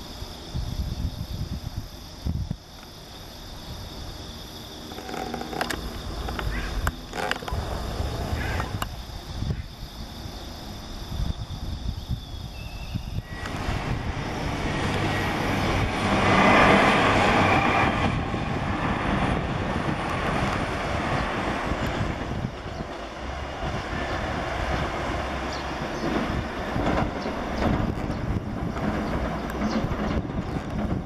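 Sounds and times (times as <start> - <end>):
train wheels rumbling on rails: 4.8 - 31.0.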